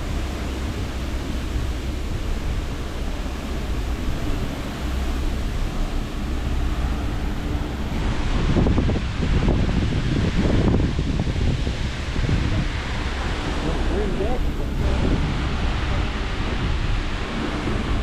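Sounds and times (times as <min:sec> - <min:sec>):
boat engine drone: 0:00.0 - 0:18.0
water noise: 0:00.0 - 0:18.0
wind: 0:00.0 - 0:18.0.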